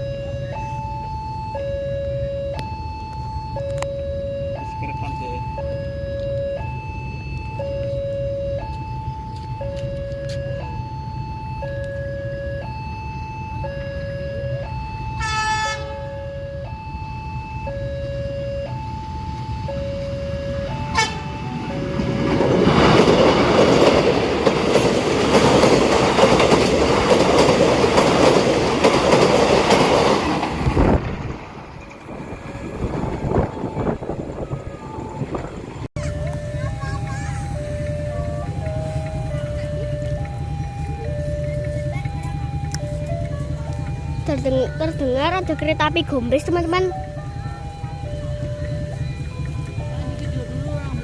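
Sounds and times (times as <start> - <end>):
level crossing alarm two tones: 0.0 - 27.5, 32.4 - 51.0
train passing rumble: 0.0 - 51.0.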